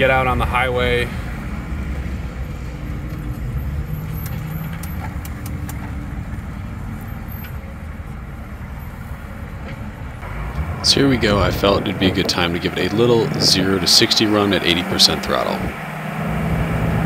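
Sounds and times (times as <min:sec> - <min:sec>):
diesel engine running: 0:00.0 - 0:17.0
tyre and drivetrain noise: 0:00.0 - 0:17.0.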